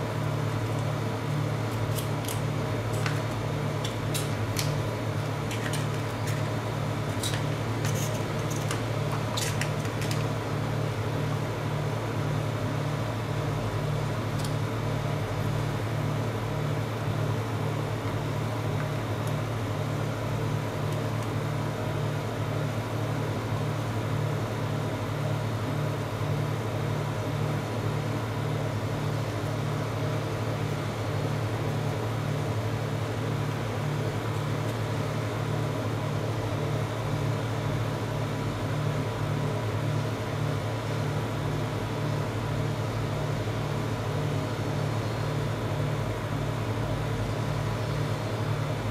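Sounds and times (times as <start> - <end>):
refrigeration unit humming: 0.0 - 48.9.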